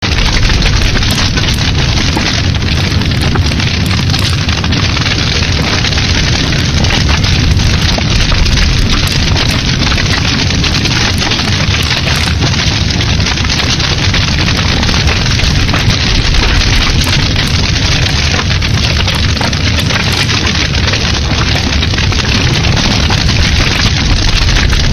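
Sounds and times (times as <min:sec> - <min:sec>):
fire burning in fireplace: 0:00.0 - 0:24.9
fire crackling and popping: 0:00.0 - 0:24.9.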